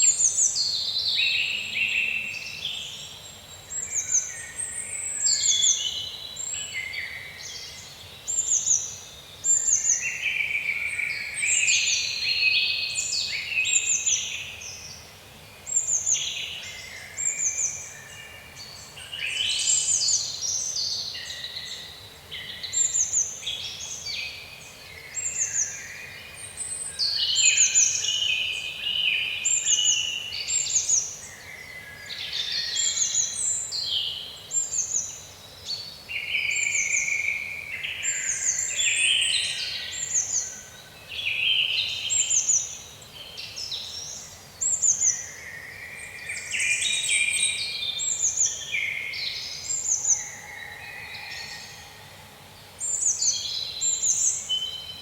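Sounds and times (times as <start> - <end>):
faint steady hiss: 0.0 - 55.0
songbirds chirping and trilling: 0.0 - 55.0.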